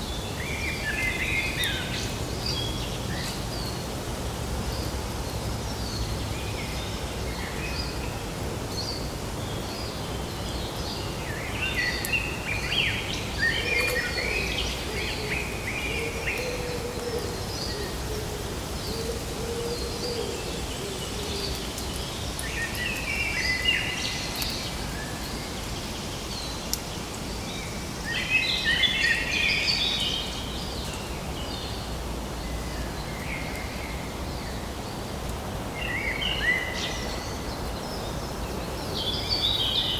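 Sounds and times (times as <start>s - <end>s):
birds singing and chirping: 0.0s - 3.9s, 5.6s - 35.1s, 35.7s - 39.9s
outdoor background noise: 0.0s - 39.9s.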